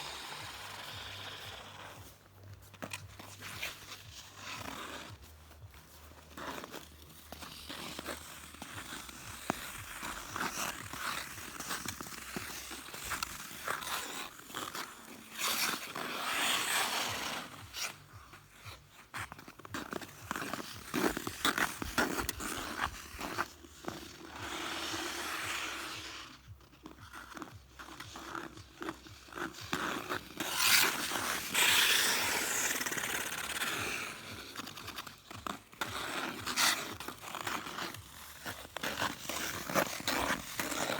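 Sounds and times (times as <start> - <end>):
skate blades scraping ice: 0.0 - 40.9.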